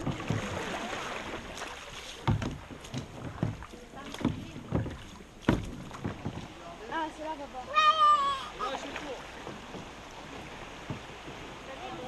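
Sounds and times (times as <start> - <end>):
paddle knocking on canoe hull: 0.0 - 7.1, 7.8 - 12.0
paddles splashing: 0.0 - 12.0
water rushing: 0.0 - 12.0
wind: 0.0 - 12.0.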